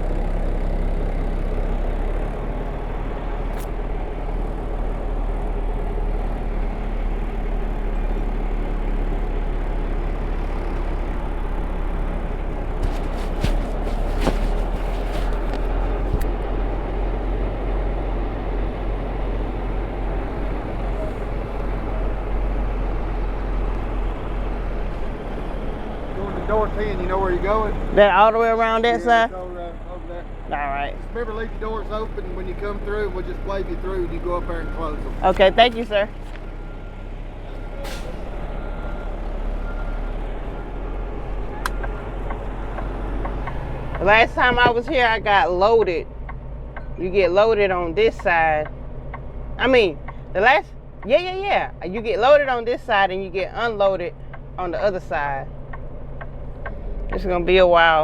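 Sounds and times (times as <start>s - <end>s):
truck diesel engine rumbling: 0.0s - 58.0s.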